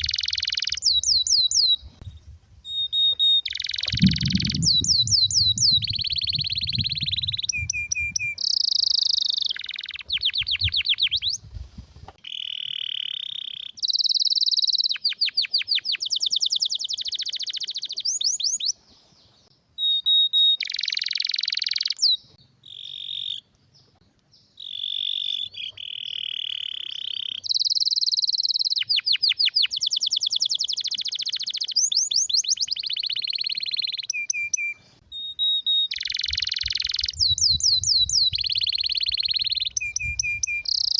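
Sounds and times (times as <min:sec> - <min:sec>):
canary singing: 0:00.0 - 0:01.9, 0:02.6 - 0:11.5, 0:12.2 - 0:18.8, 0:19.8 - 0:23.5, 0:24.4 - 0:40.9.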